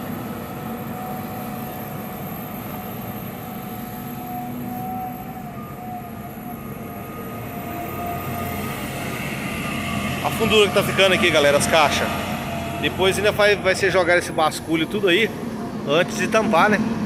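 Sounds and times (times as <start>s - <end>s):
excavator diesel engine rumbling: 0.0s - 17.0s
thin machine whine: 0.0s - 17.0s.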